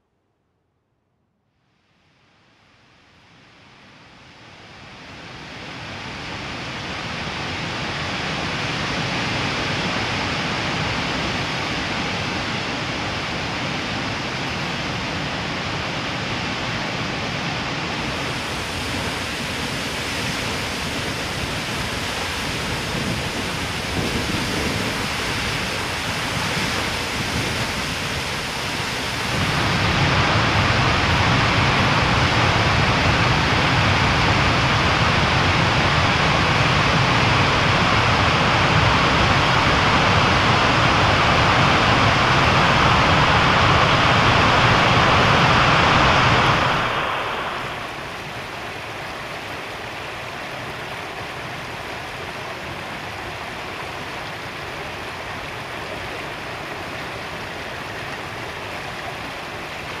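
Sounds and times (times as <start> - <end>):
waterfall rushing and crashing: 5.0 - 60.0.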